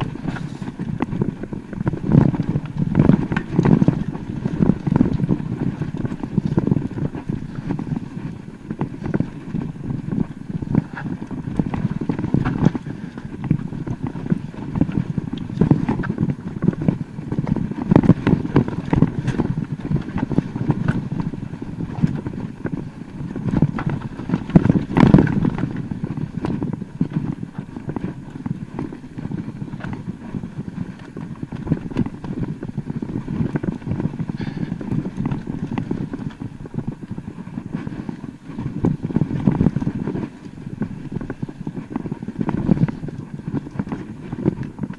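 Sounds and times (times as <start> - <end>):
mountain bike rattling on rocks: 0.0 - 44.9.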